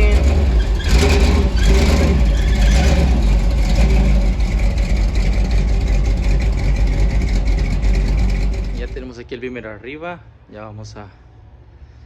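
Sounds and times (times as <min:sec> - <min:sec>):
car engine rumbling: 0:00.0 - 0:10.4.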